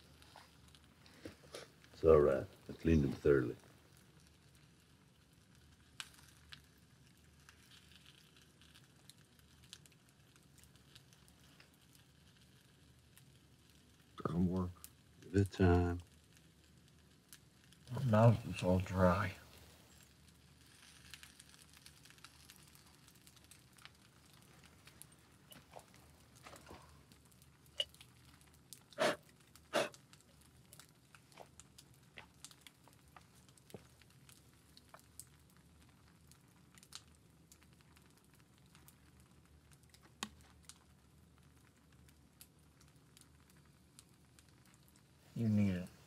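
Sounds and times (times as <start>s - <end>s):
small fire crackling: 0.0s - 46.0s.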